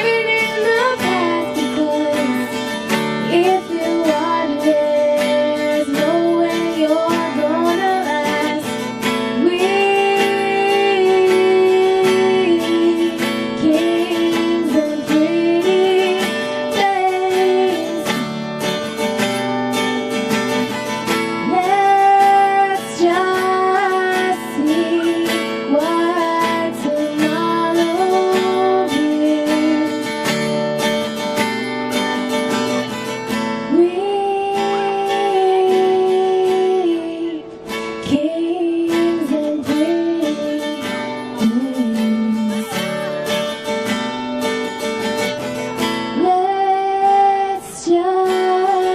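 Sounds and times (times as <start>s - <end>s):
strummed acoustic guitar: 0.0s - 48.9s.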